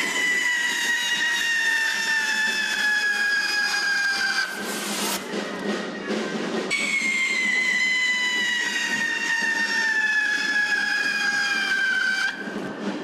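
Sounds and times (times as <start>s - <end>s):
whistling firework: 0.0s - 13.0s.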